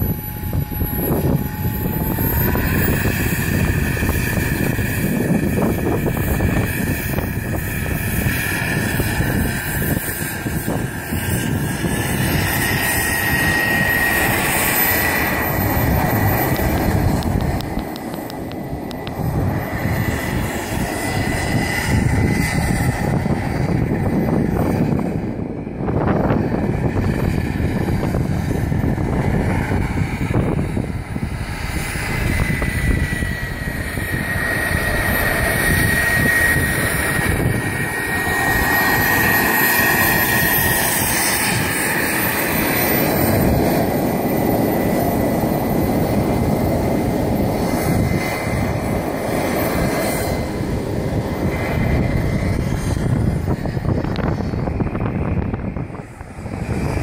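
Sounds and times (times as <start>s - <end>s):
gas turbine high whine: 0.0s - 57.0s.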